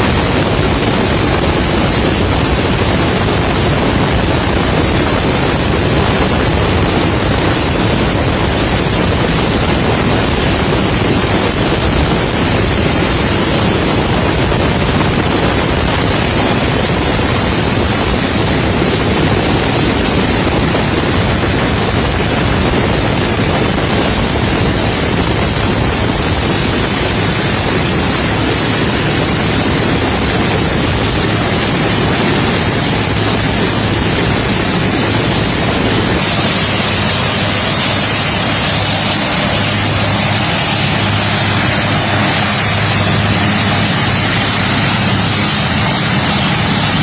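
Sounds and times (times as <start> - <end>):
helicopter in flight: 0.0 - 47.0
wind on microphone: 0.0 - 47.0.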